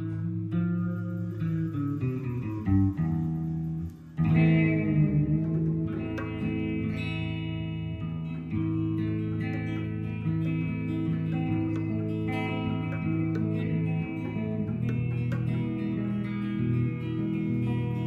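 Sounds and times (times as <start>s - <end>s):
guitar music: 0.0s - 18.0s.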